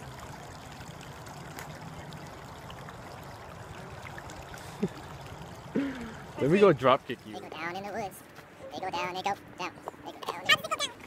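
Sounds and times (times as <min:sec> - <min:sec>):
creek water over rocks: 0:00.0 - 0:11.0.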